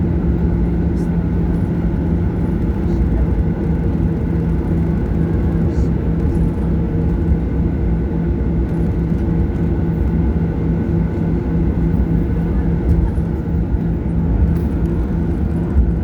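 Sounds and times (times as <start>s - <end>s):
jet engine rumble in cabin: 0.0s - 16.0s.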